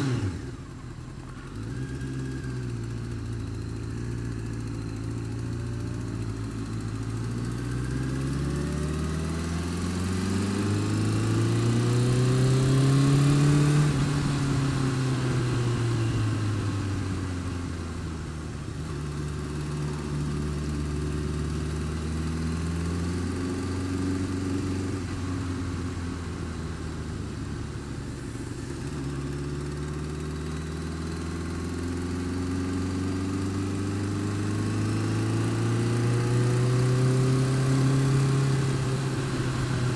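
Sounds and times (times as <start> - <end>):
motorcycle engine revving: 0.0 - 39.9
odd engine noise: 0.0 - 39.9.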